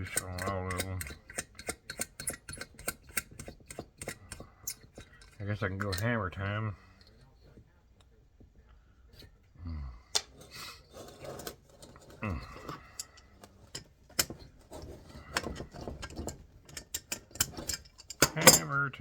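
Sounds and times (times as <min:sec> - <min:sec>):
metal tools clicking and clinking: 0:00.0 - 0:07.6, 0:10.2 - 0:19.0.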